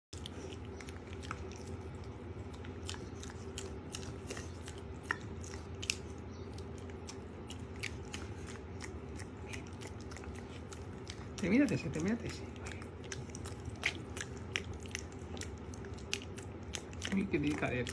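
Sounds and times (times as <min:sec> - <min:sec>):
faint steady hum: 0:00.2 - 0:17.9
piglet chewing wet smacks: 0:00.2 - 0:17.9.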